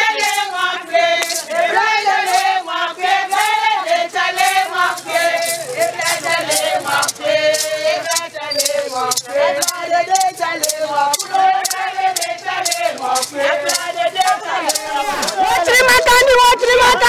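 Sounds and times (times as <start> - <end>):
gourd rattles shaken: 0.0 - 16.2
women singing together: 0.0 - 17.0.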